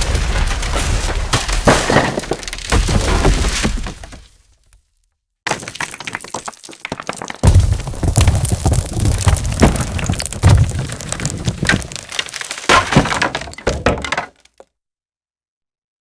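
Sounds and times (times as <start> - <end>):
debris cracking and breaking: 0.0 - 4.8, 5.5 - 14.6.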